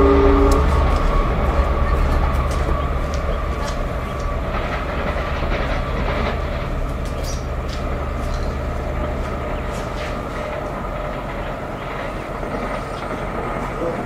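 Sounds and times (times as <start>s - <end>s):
diesel locomotive engine hum: 0.0s - 14.0s
wheels clicking over rail joints: 0.0s - 14.0s.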